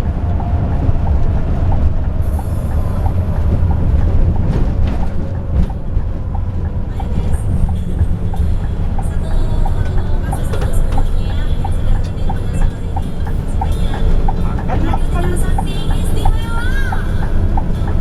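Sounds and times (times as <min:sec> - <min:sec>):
coach engine and road drone: 0:00.0 - 0:18.0.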